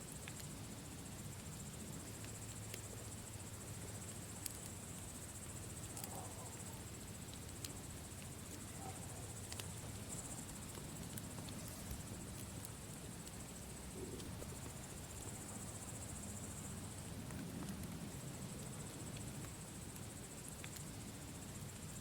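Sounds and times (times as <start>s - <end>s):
campfire crackling and popping: 0.0s - 22.0s
crickets chirring: 0.0s - 22.0s.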